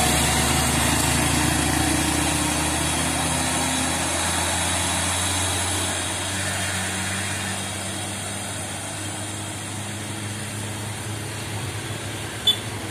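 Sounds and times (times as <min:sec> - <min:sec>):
motorcycle engines passing: 0:00.0 - 0:12.9
truck diesel engine pulling uphill: 0:00.0 - 0:12.9.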